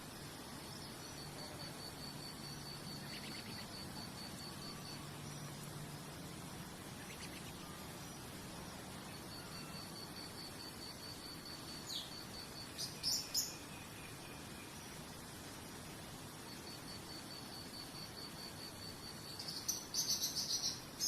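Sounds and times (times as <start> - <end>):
background hiss: 0.0 - 21.0
crickets chirping: 0.0 - 21.0.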